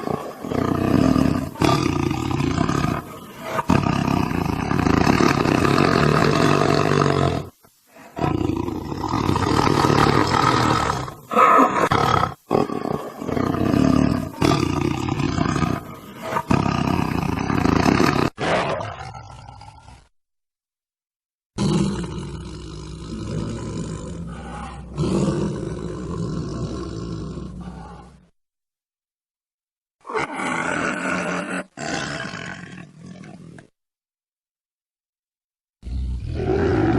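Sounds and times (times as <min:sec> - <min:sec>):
tiger roaring and growling: 0:00.0 - 0:20.1, 0:21.6 - 0:28.3, 0:30.0 - 0:33.7, 0:35.8 - 0:36.9.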